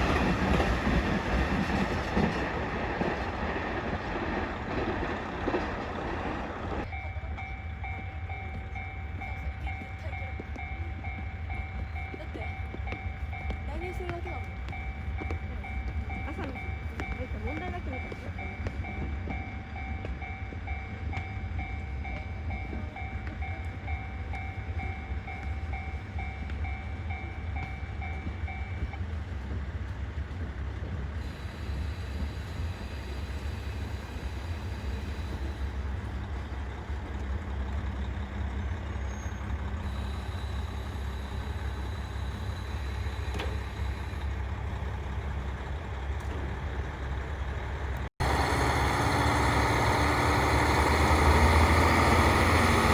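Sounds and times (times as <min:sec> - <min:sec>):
diesel railcar idling: 0:00.0 - 0:52.9.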